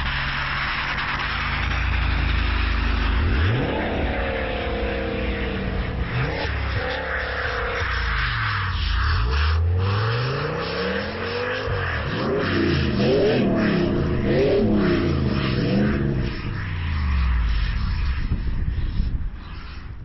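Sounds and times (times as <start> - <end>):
steady rushing noise: 0.0 - 20.0
vehicle engine revving: 0.0 - 20.0.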